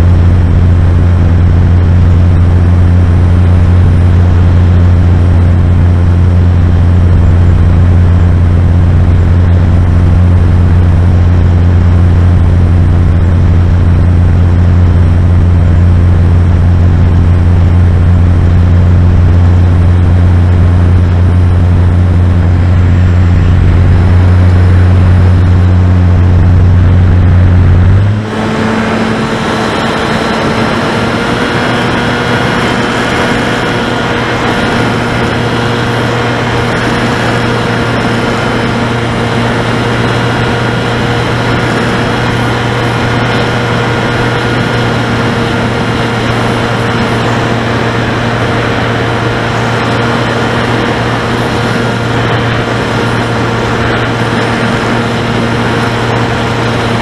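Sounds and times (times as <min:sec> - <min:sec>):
electric motor and propeller hum: 0:00.0 - 0:57.0
rushing airflow: 0:00.0 - 0:57.0.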